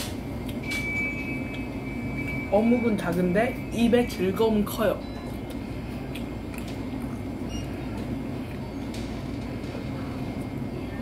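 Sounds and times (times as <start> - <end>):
low background rumble and hum: 0.0 - 11.0.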